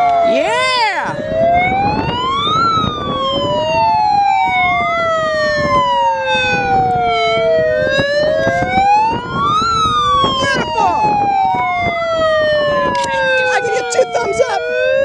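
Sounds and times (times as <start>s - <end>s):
megaphone siren wailing: 0.0s - 15.0s.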